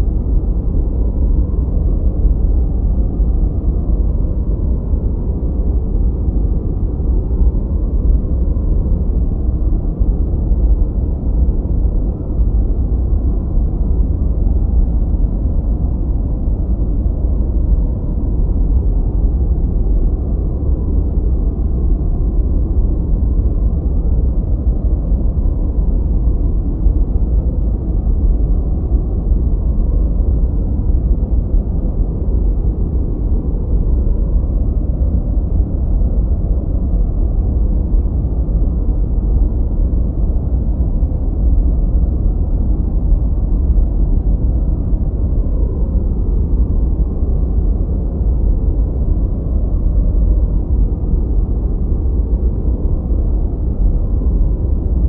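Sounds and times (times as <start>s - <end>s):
deep muffled rumble noise: 0.0s - 55.0s.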